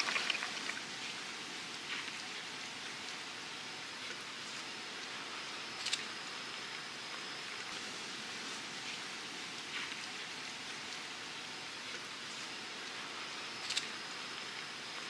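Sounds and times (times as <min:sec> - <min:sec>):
outdoor ambient hiss: 0:00.0 - 0:15.0.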